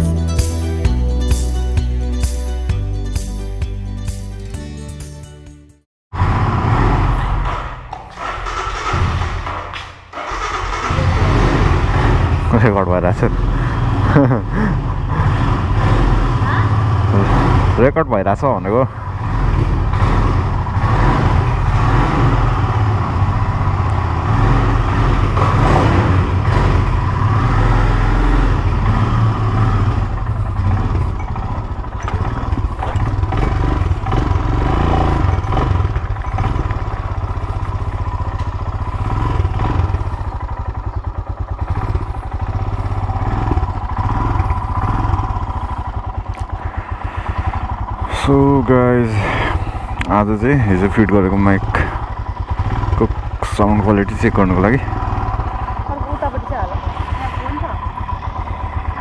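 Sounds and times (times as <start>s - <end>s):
motorcycle engine running: 6.2s - 59.0s.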